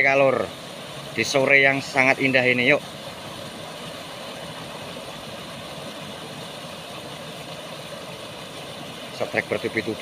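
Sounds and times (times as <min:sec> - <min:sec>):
water pouring over weir: 0:00.0 - 0:10.0.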